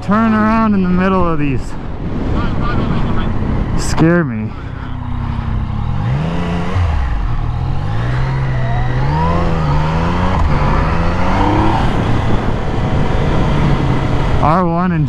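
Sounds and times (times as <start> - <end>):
motorcycle engines accelerating: 0.0 - 15.0.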